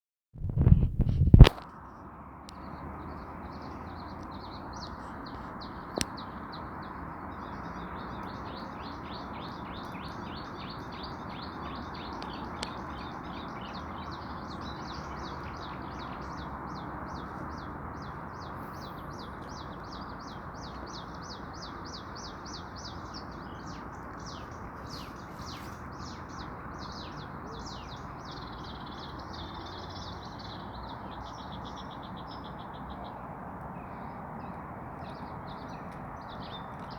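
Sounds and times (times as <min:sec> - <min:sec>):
bird chirping: 0:02.6 - 0:36.9.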